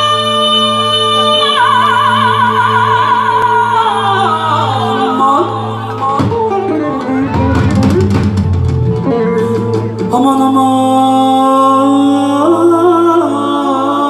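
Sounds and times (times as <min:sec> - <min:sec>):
woman singing with vibrato: 0:00.0 - 0:08.3, 0:09.3 - 0:14.0.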